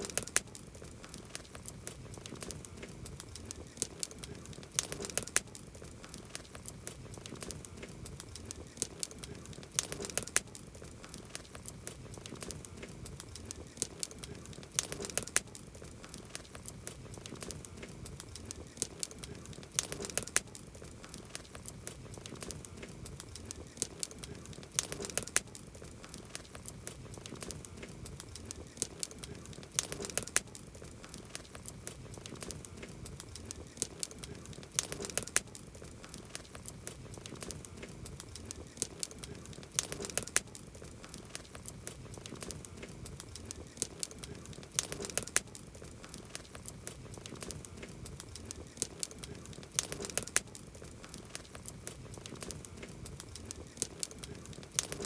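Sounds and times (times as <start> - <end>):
campfire crackling: 0.0 - 55.0
sharp pops of burning wood: 0.0 - 55.0.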